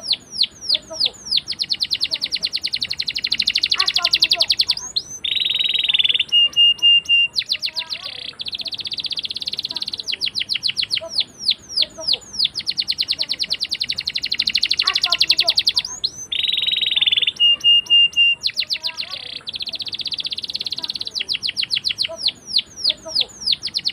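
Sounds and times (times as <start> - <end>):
canary singing trills: 0.0 - 23.9.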